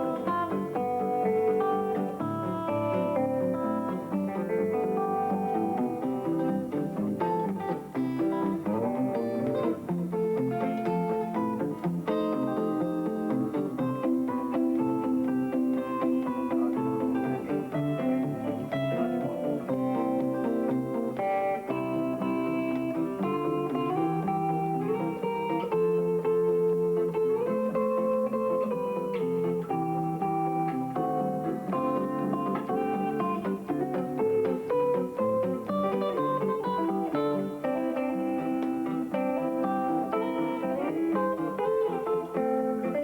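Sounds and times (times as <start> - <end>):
fingerpicked guitar: 0.0 - 43.0.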